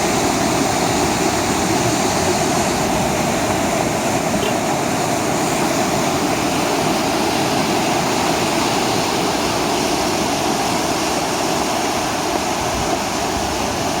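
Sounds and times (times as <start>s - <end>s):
floodwater roaring: 0.0s - 14.0s.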